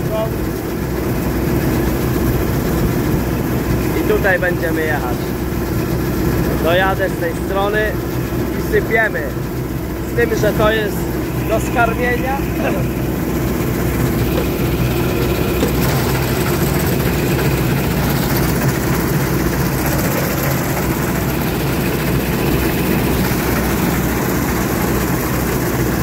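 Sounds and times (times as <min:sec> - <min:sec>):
low engine hum: 0:00.0 - 0:26.0
threshing machinery noise: 0:00.0 - 0:26.0.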